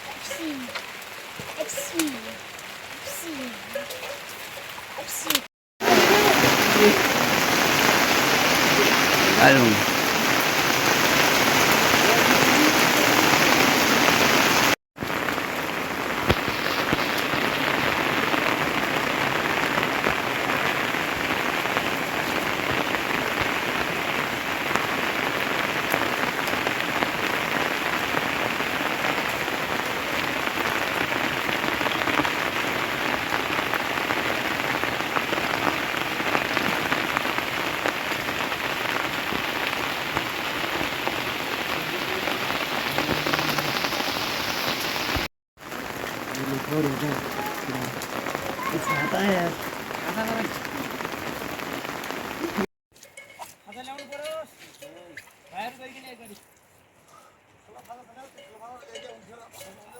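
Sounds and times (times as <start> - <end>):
steady rainfall: 0.0 - 54.3, 55.2 - 58.2.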